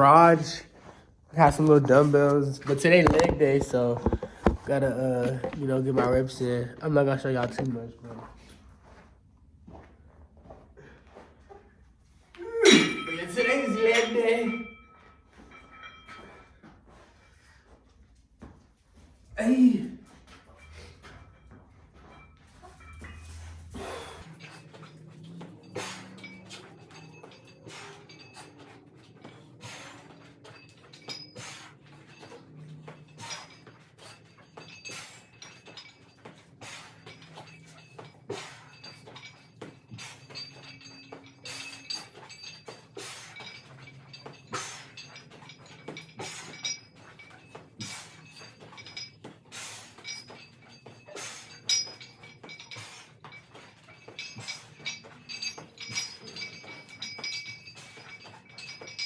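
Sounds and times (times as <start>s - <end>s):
light metallic clinks: 1.4s - 8.7s, 12.5s - 17.5s, 20.0s - 59.0s.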